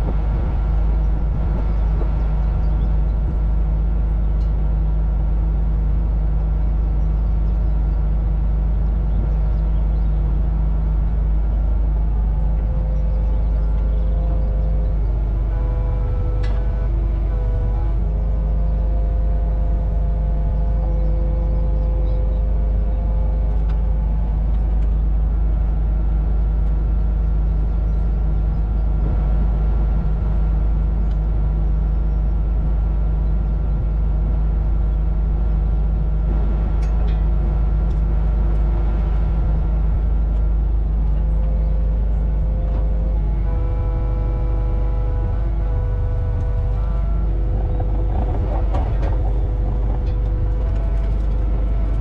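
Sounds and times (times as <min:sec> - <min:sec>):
mini excavator running: 0:00.0 - 0:52.0.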